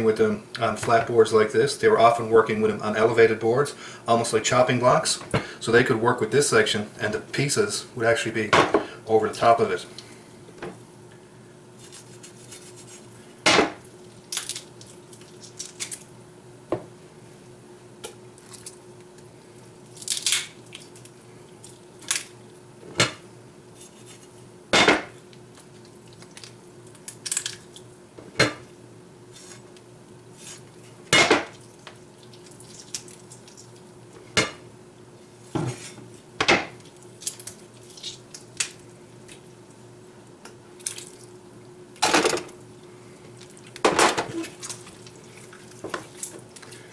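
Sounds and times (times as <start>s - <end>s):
faint steady hum: 0.0s - 46.9s.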